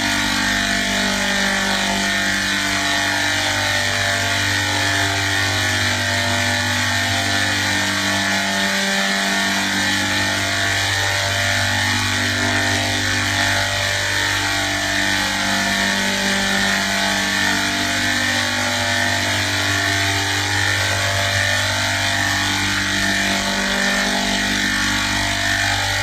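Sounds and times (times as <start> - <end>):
machine drone with hiss: 0.0 - 26.0.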